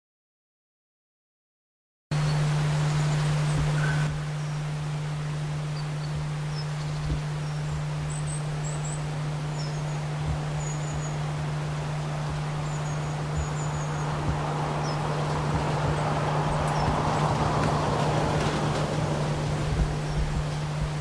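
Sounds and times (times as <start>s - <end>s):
steady low hum: 2.1s - 21.0s
faint background hiss: 2.2s - 21.0s
small birds chirping: 2.2s - 21.0s.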